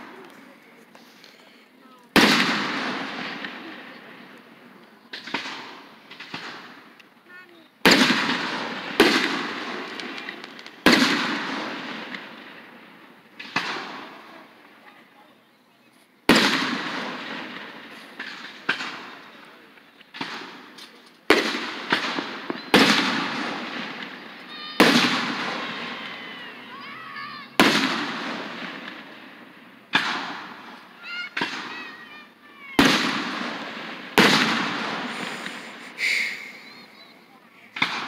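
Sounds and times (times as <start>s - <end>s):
fireworks bursting with rumbling echo: 0.0s - 15.0s, 16.2s - 26.7s, 27.3s - 38.0s.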